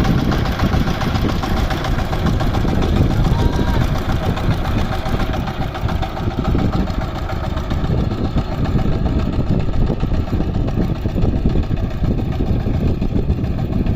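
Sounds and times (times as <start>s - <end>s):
diesel engine running steadily: 0.0s - 13.9s.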